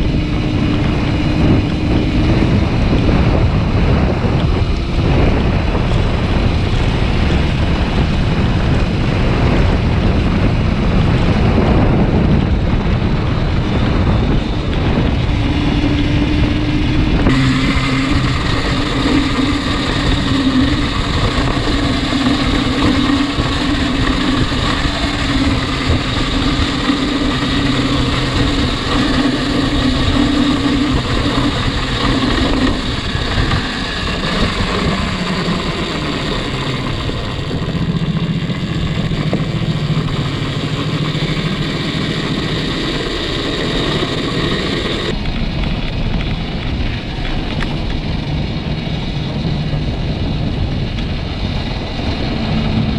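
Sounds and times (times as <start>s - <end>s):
motorcycle riding at speed: 0.0s - 52.9s
steady humming drone: 0.0s - 52.9s
wind noise on microphone: 0.0s - 52.9s.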